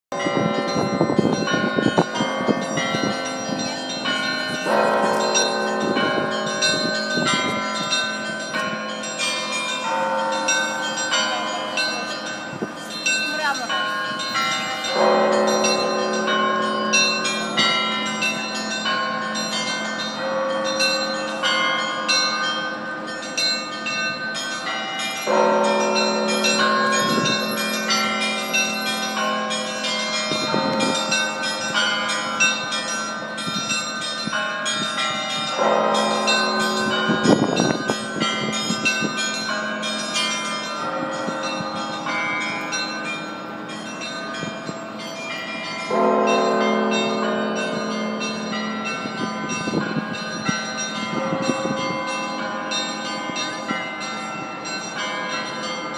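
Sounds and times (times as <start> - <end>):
small bells chiming rapidly: 0.2 - 55.9.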